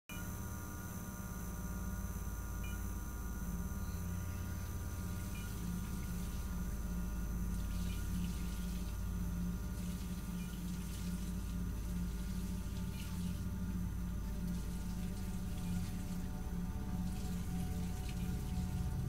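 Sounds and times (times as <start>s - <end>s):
low pulsing drone: 0.1s - 19.0s.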